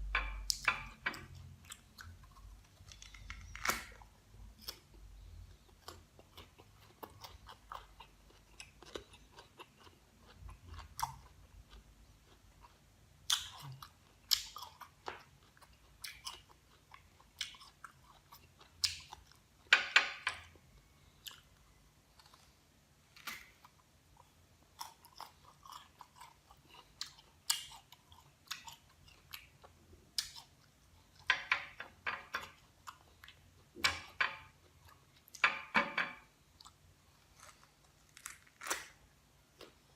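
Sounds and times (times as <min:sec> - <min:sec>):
guava being bitten and chewed: 0:01.3 - 0:19.7, 0:20.8 - 0:31.3, 0:36.6 - 0:39.9.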